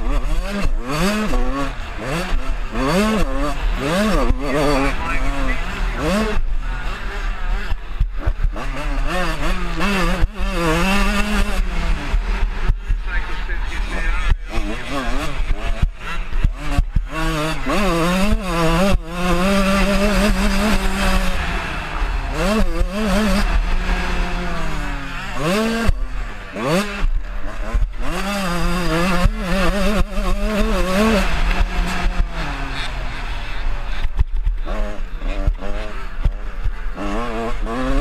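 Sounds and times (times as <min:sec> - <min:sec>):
two-stroke motocross engine revving: 0:00.0 - 0:38.0.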